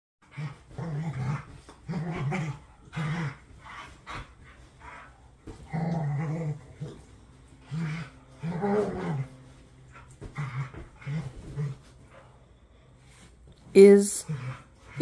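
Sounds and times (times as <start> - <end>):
dogs play-growling: 0.2 - 15.0.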